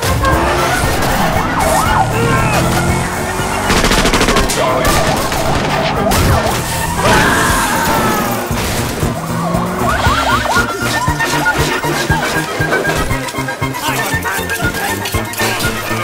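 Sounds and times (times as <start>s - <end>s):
music: 0.0s - 16.0s
police sirens wailing: 0.0s - 16.0s
rapid clattering: 0.0s - 16.0s
tyre skid: 0.0s - 16.0s.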